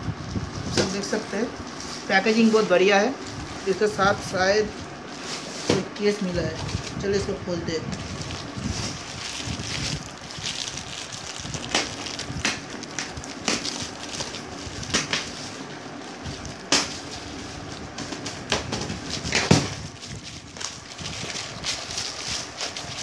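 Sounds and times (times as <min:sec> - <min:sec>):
plastic bag crinkling: 0:00.9 - 0:07.1, 0:07.9 - 0:23.0.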